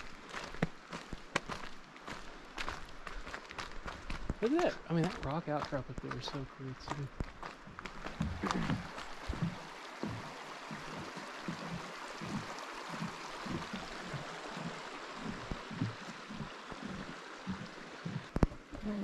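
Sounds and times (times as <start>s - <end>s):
creek flowing over stones: 0.0s - 19.0s
soft low thumps: 2.6s - 19.0s.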